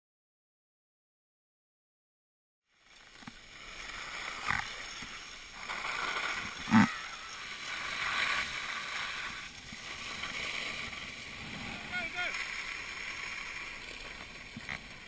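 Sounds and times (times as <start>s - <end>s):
skis scraping over snow: 2.7s - 15.0s.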